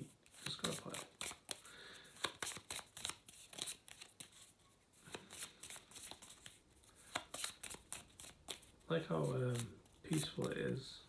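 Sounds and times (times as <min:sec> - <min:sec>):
cards being shuffled: 0:00.2 - 0:10.8.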